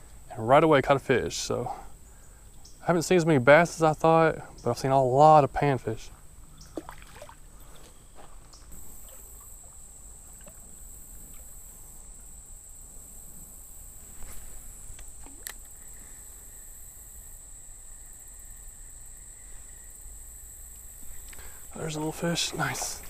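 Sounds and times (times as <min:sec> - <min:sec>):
insects droning high-pitched: 0:00.0 - 0:23.0
lower insect drone: 0:00.0 - 0:23.0.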